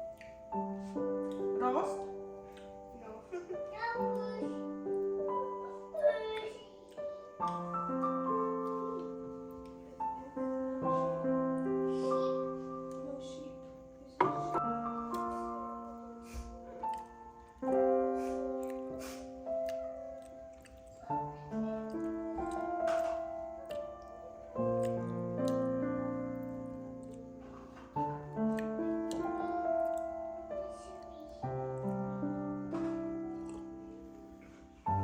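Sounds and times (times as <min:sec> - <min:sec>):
calm piano chords: 0:00.0 - 0:35.0.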